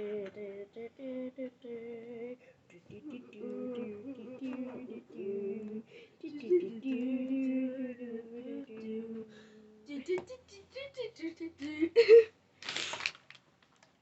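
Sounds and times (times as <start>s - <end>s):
person humming: 0.0s - 12.3s.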